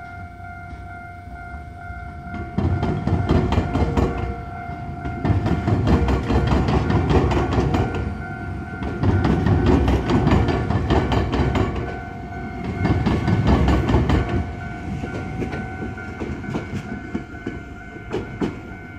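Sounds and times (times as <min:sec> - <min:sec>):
level crossing warning bell: 0:00.0 - 0:18.9
loud train rumble: 0:00.0 - 0:18.9
train wheels clattering over crossing: 0:02.2 - 0:18.9.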